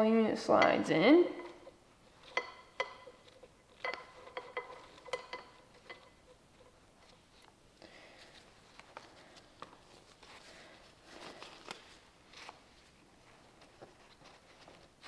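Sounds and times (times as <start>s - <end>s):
soft rustle: 1.0s - 15.0s.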